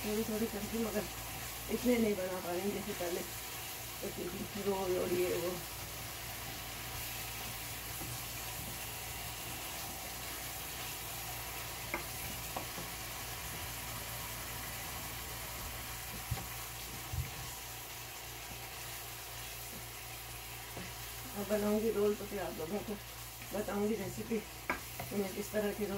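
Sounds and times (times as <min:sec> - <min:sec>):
masala sizzling in a pan: 0:00.0 - 0:25.9.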